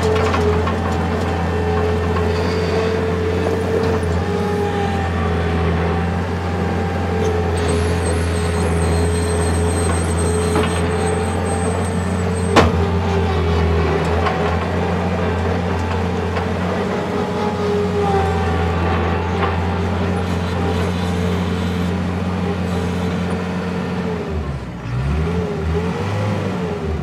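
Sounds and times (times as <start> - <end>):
skid steer engine running: 0.0 - 27.0.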